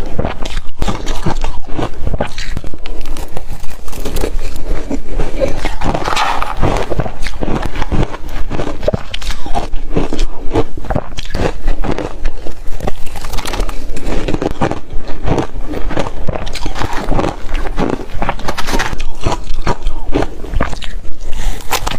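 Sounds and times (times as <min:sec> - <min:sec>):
ice crunching being chewed: 0:00.0 - 0:21.9.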